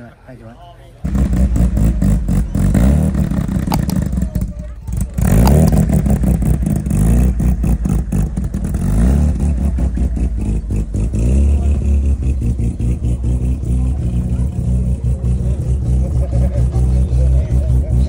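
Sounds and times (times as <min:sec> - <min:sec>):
car engine running: 0:01.1 - 0:18.0.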